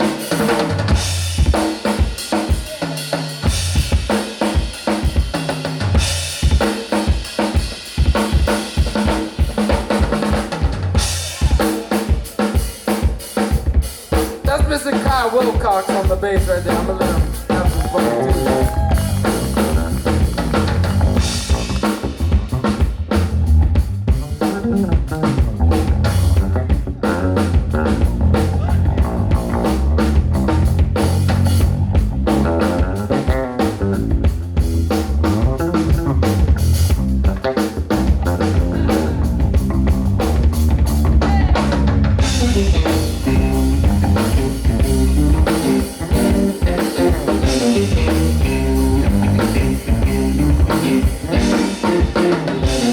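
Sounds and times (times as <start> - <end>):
electric bass guitar: 0.0 - 2.4, 3.4 - 6.9, 8.0 - 11.8, 16.3 - 52.9
drum kit beat: 0.0 - 52.9.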